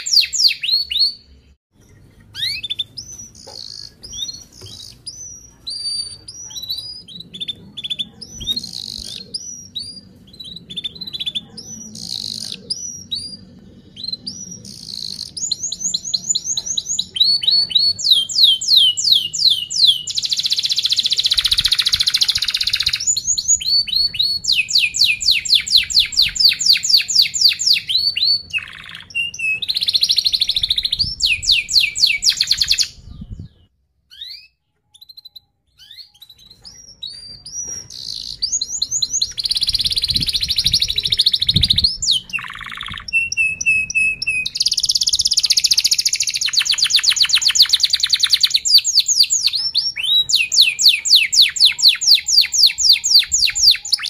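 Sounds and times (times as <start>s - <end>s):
canary chirps and trills: 0.0s - 54.0s.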